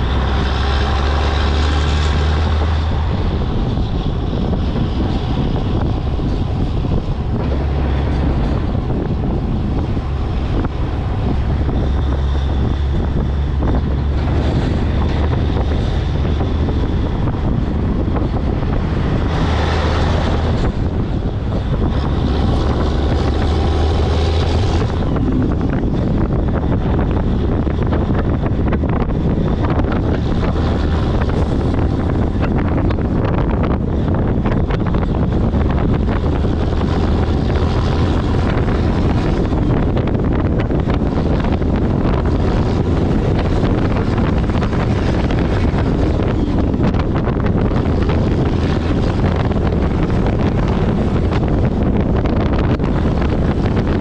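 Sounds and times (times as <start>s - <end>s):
diesel truck engine drone: 0.0s - 54.0s
road noise: 0.0s - 54.0s
wind buffeting microphone: 0.0s - 54.0s.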